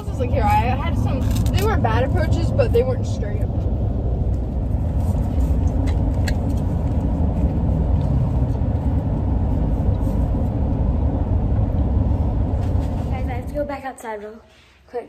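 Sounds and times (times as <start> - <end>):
vehicle engine rumble: 0.0 - 14.0
road noise: 0.0 - 15.0.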